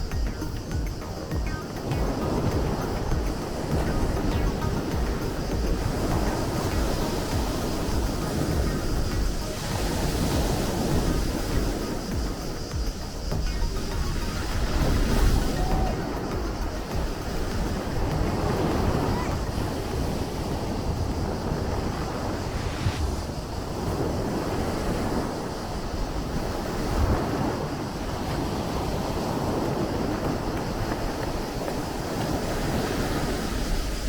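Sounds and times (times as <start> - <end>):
sea surf washing: 0.0 - 34.0
wind buffeting microphone: 0.0 - 34.0.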